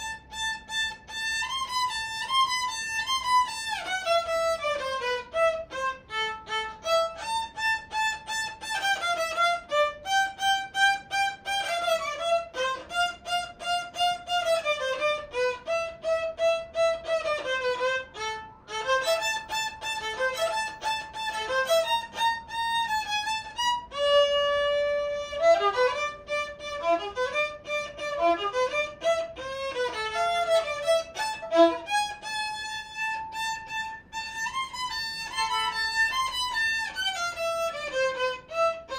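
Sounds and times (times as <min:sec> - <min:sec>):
solo violin melody: 0:00.0 - 0:38.9.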